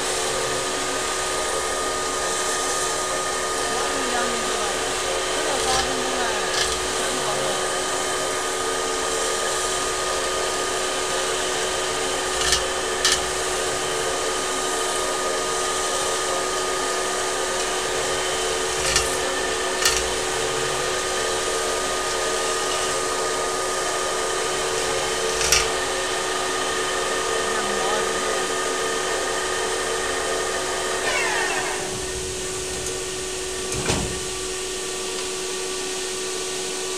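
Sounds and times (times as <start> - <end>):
metal-spinning machine hum: 0.0 - 36.9.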